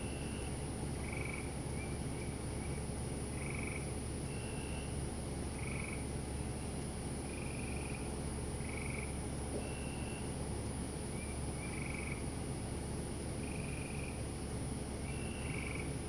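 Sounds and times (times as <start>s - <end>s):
frogs trilling: 0.0s - 6.2s, 7.2s - 12.4s, 13.3s - 14.3s, 15.0s - 16.0s
high insect drone: 0.0s - 16.0s.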